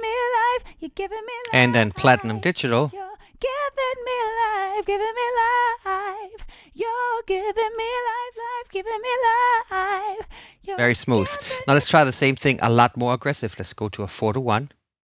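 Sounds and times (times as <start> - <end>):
woman singing with vibrato: 0.0 - 12.1.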